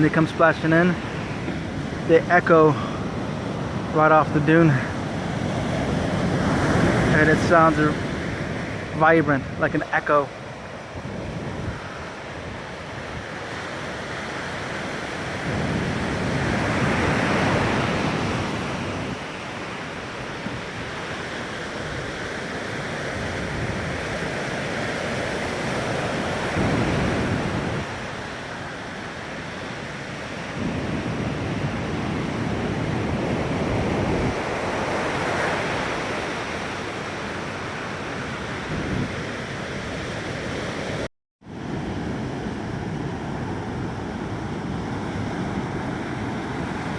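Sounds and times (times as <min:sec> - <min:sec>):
ocean surf breaking on beach: 0:00.0 - 0:46.9
wind rumbling on microphone: 0:00.0 - 0:46.9.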